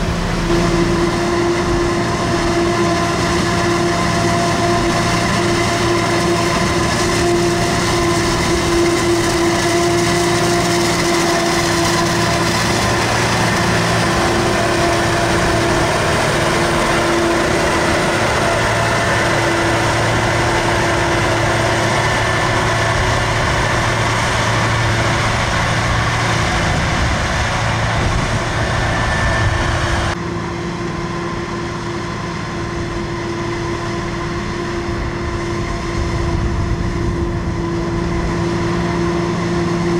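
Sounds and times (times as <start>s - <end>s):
constant machine whine: 0.0s - 39.9s
farm machinery engine drone: 0.0s - 39.9s.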